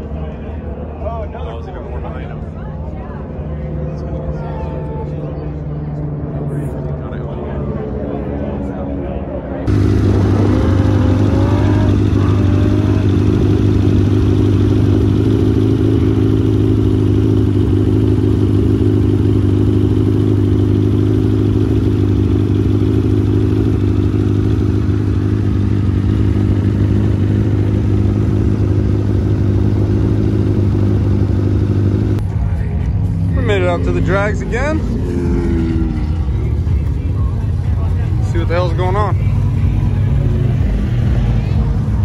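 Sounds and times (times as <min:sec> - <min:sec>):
engine droning steadily: 0:00.0 - 0:42.0.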